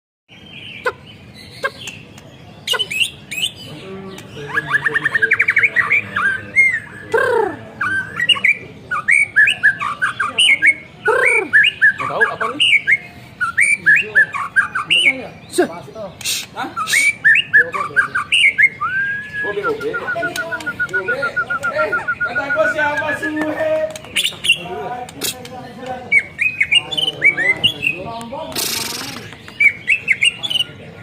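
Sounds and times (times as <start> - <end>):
bird singing: 0.3 - 31.0.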